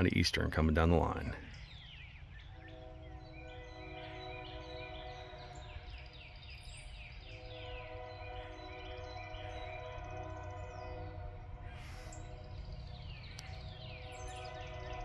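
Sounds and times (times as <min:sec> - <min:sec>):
songbird singing: 0:00.0 - 0:15.0
distant locomotive air horn: 0:01.1 - 0:15.0.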